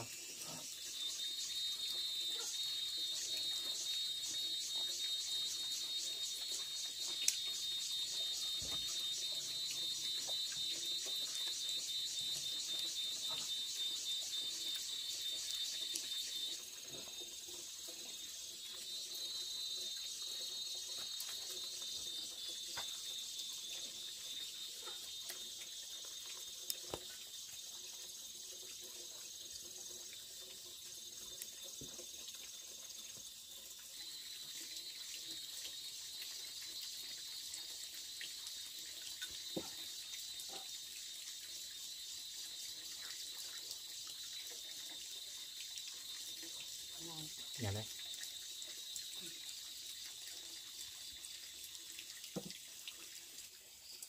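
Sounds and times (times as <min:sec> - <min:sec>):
insects calling in chorus: 0:00.0 - 0:51.6.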